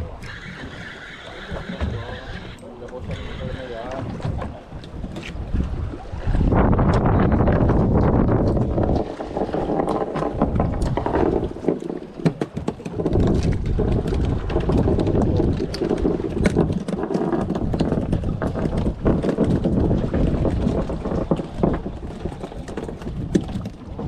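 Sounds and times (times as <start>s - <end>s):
water moving against hull: 0.0s - 24.0s
wind buffeting microphone: 0.0s - 24.0s.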